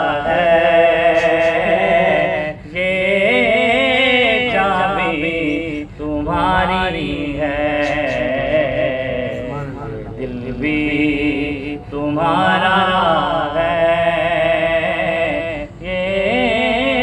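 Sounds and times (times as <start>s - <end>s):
low steady hum: 0.0s - 17.0s
man singing unaccompanied: 0.0s - 17.0s.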